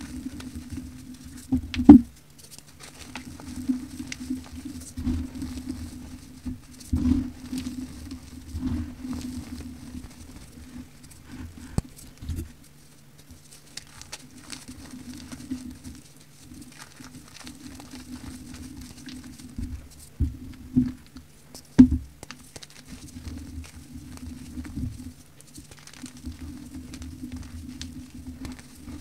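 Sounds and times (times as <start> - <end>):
hands crunching powder: 0.0 - 12.2, 13.4 - 20.1, 22.2 - 29.0
powder sifting through fingers: 0.0 - 29.0.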